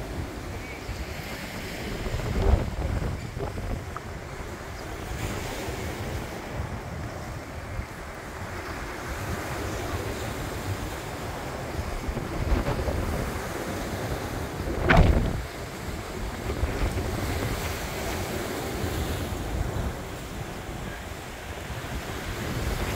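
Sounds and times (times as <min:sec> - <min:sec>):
surf on rocky shore: 0:00.0 - 0:22.9
wind buffeting microphone: 0:00.0 - 0:22.9.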